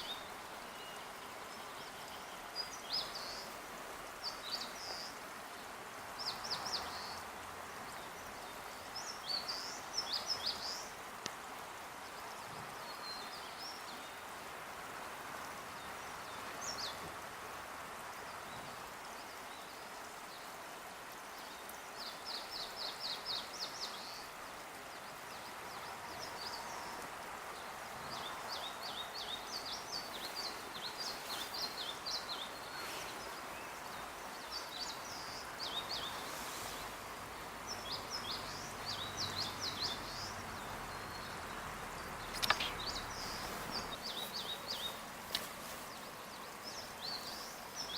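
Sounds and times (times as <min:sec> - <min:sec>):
songbirds chirping and trilling: 0:00.0 - 0:47.9
steady background hiss: 0:00.0 - 0:47.9.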